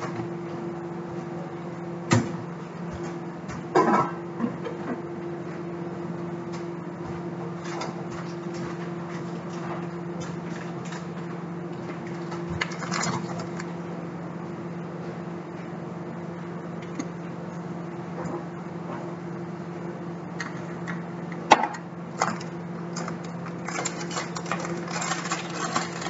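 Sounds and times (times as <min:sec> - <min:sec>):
low kitchen hum: 0:00.0 - 0:26.0.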